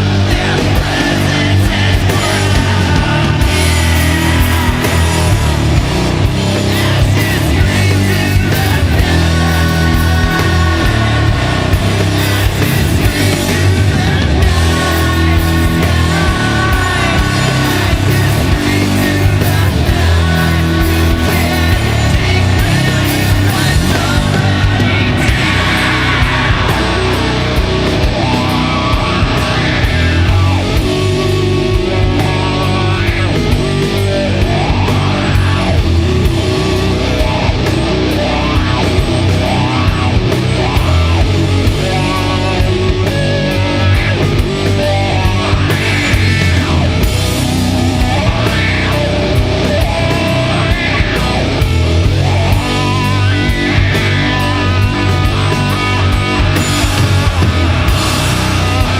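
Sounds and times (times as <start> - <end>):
distorted electric guitars and bass: 0.0 - 58.9
drums: 0.0 - 58.9.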